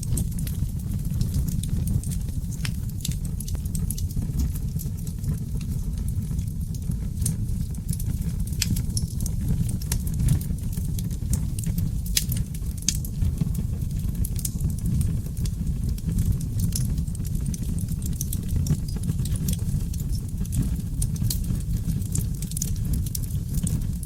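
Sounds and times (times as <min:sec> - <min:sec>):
low rumble of flames: 0:00.0 - 0:24.0
wood fire snaps and pops: 0:00.0 - 0:24.0.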